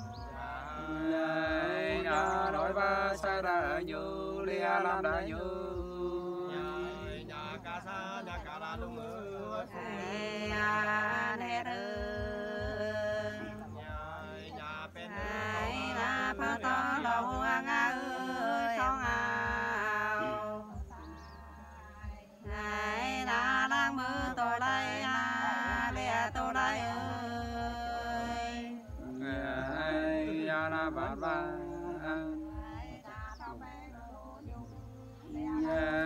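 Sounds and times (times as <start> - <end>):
unaccompanied folk singing voices: 0.0 - 36.0.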